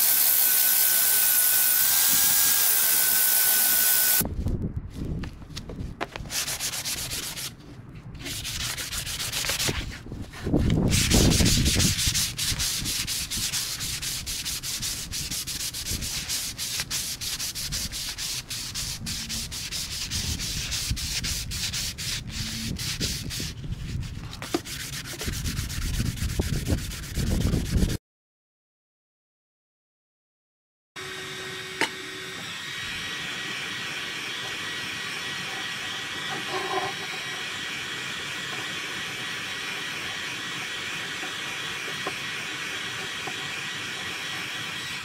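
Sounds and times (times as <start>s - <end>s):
sandpaper rasping on wood: 0.0s - 4.2s, 6.3s - 7.5s, 8.2s - 28.0s, 33.9s - 45.0s.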